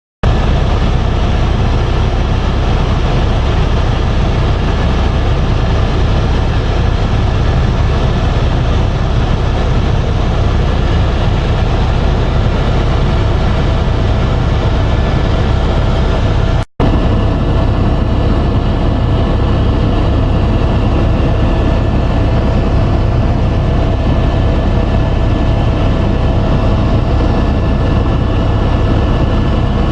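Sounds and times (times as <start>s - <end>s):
helicopter rotor and engine noise: 0.3s - 29.9s.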